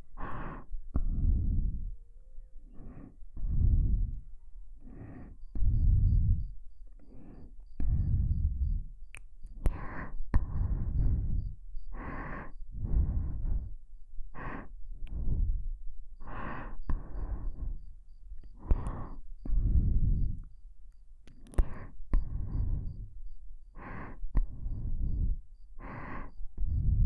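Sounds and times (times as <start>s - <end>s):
close breathing into microphone: 0.0s - 27.0s.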